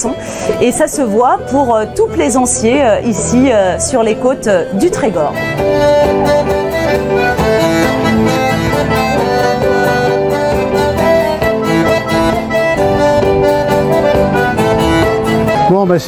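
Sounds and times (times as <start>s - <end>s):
accordions playing folk tune: 0.0s - 16.0s
guitar accompaniment: 0.0s - 16.0s.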